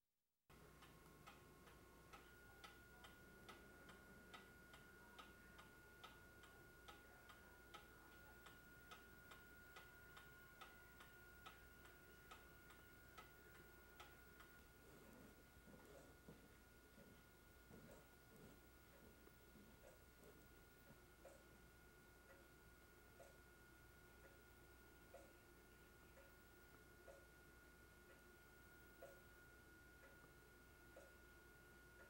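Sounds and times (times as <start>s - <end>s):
pendulum clock ticking: 0.5s - 32.0s.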